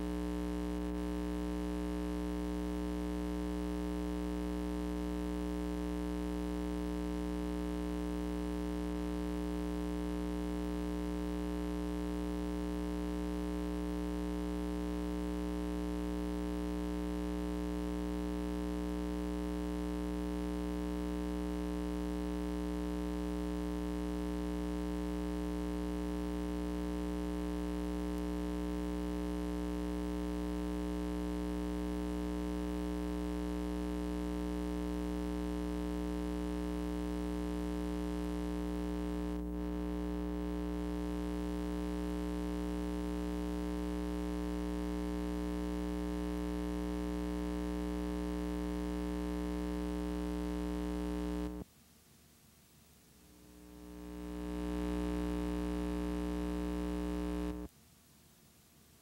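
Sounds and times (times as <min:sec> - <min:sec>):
electrical mains hum: 0:00.0 - 0:51.7, 0:53.0 - 0:57.7.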